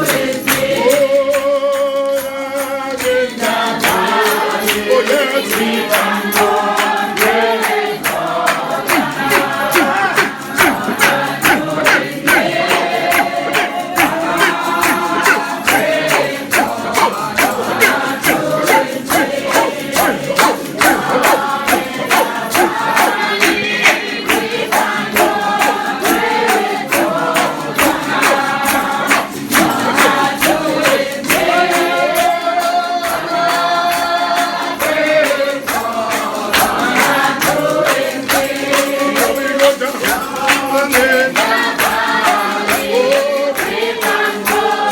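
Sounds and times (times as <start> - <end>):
congregation singing a hymn: 0.0 - 44.9
steady percussive beat: 3.8 - 44.9.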